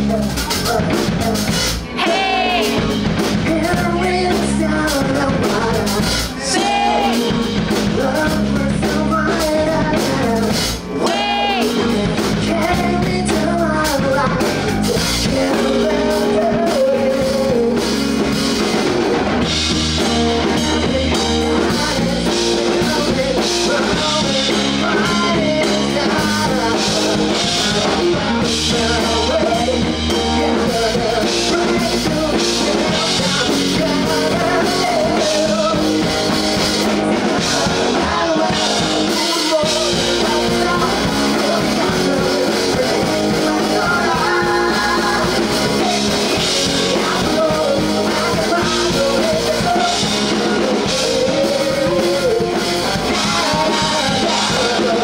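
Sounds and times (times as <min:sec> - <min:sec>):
drums: 0:00.0 - 0:55.0
electric guitar: 0:00.0 - 0:55.0
person singing: 0:00.0 - 0:55.0.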